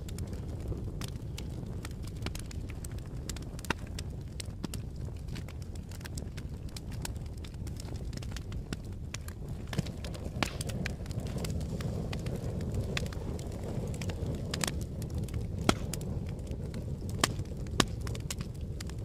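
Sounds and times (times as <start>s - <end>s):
fire popping and snapping: 0.0s - 19.0s
fire rumbling: 0.0s - 19.0s.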